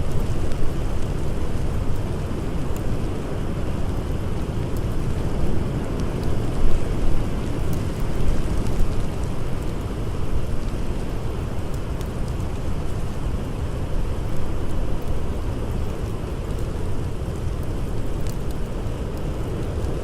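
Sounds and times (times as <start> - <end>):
faint campfire crackles: 0.0 - 20.0.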